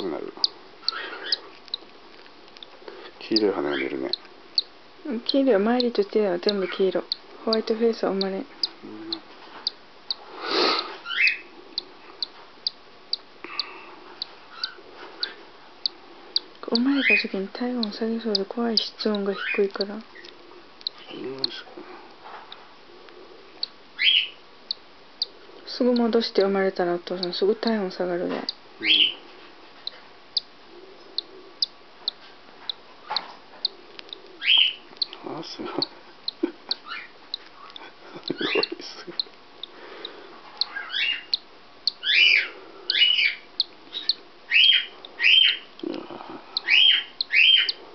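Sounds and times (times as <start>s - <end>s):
chick peeping: 0.0s - 1.9s, 3.3s - 21.7s, 23.6s - 29.2s, 29.8s - 47.9s.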